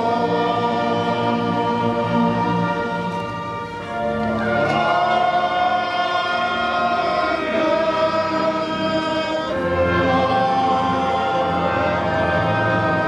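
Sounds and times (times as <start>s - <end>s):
men singing a hymn: 0.0s - 3.1s, 4.4s - 13.0s.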